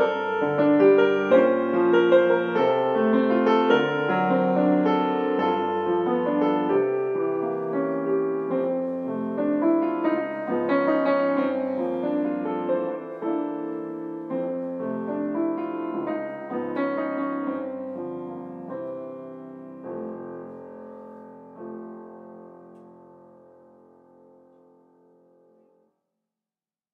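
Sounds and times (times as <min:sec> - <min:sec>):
solo piano improvisation: 0:00.0 - 0:25.8.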